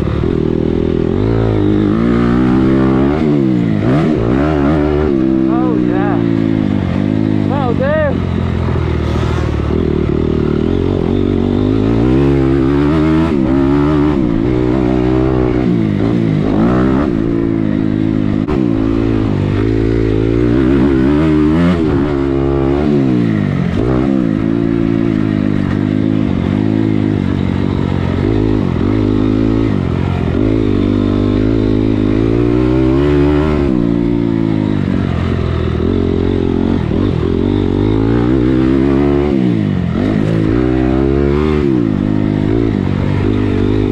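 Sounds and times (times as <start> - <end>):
dirt bike engine revving: 0.1 - 43.9.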